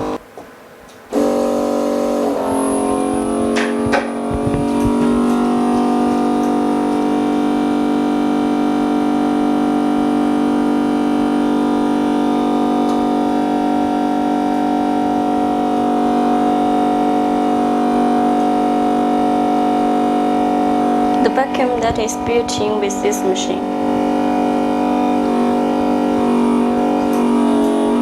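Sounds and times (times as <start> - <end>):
vacuum pump humming: 0.0 - 28.0.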